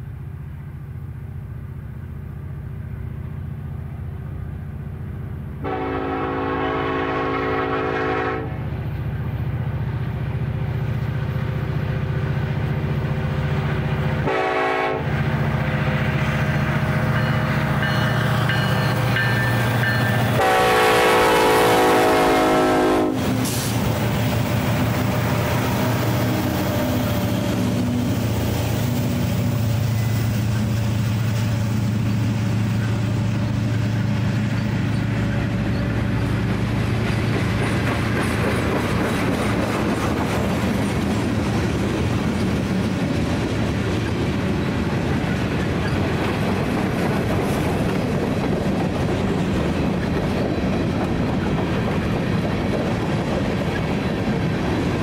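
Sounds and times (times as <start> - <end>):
diesel locomotive engine drone: 0.0 - 55.0
freight train wheels clacking on rails: 10.8 - 55.0.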